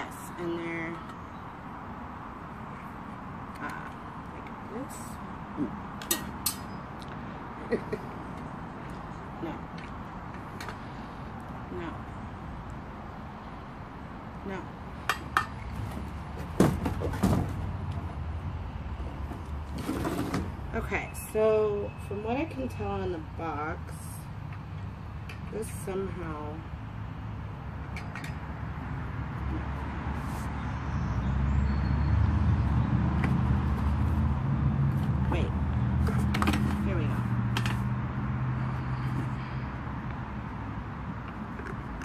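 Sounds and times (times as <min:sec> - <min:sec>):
vehicle engine rumbling: 0:00.0 - 0:42.0.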